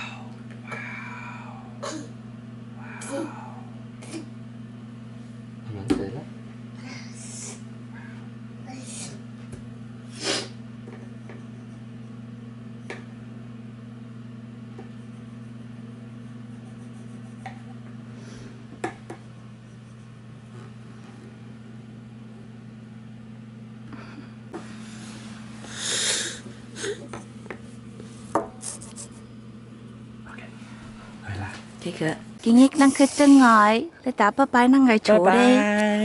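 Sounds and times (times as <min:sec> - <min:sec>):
appliance humming: 0:00.0 - 0:36.0.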